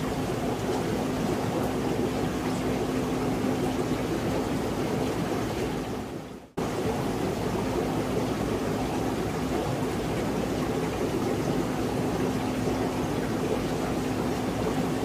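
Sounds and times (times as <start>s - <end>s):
aquarium filter water rushing: 0.0s - 15.0s.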